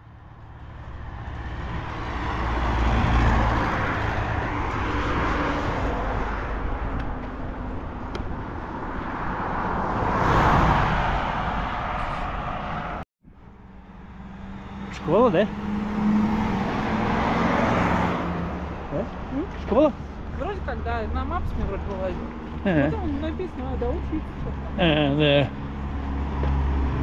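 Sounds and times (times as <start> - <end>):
cars passing by: 0.0 - 27.0.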